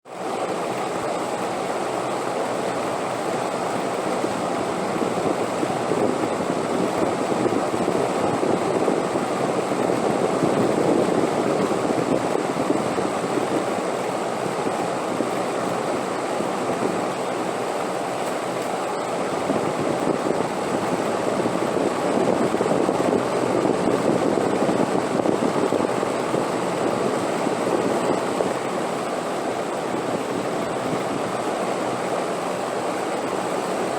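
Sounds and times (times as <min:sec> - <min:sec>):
wind blowing in gusts: 0:03.8 - 0:17.8, 0:18.5 - 0:33.9.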